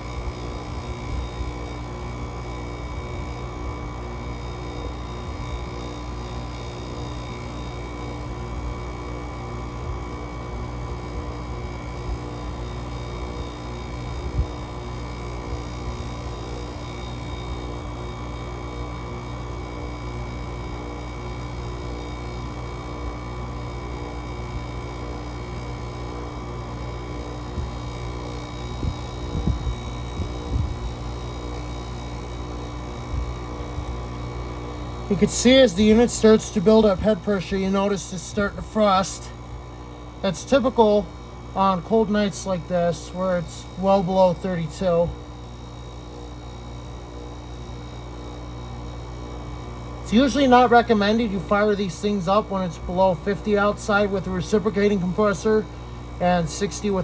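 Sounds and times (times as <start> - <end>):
air conditioner fan airflow: 0.0 - 57.0
compressor humming: 0.0 - 57.0.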